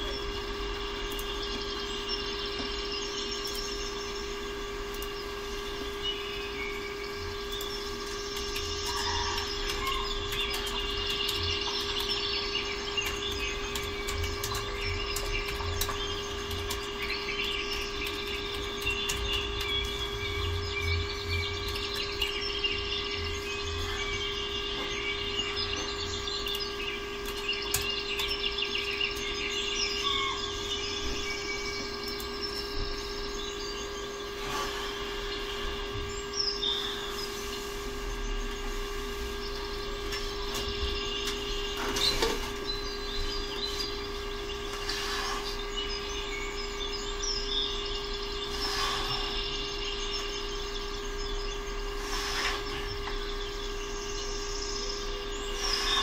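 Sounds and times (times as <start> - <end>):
small birds chirping: 0.0 - 56.0
steady hum: 0.0 - 56.0.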